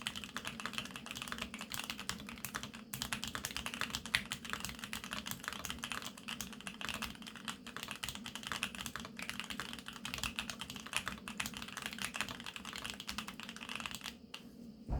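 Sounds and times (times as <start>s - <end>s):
fast mechanical keyboard typing: 0.0s - 14.2s.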